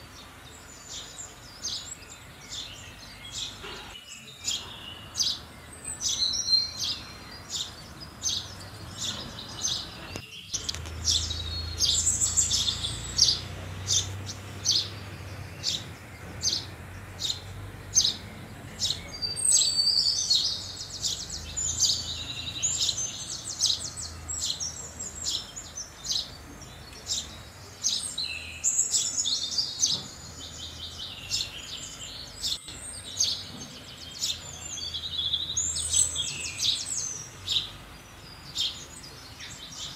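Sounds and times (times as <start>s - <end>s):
sparrows chattering: 0.0s - 39.9s
sparrows chirping: 0.0s - 39.9s.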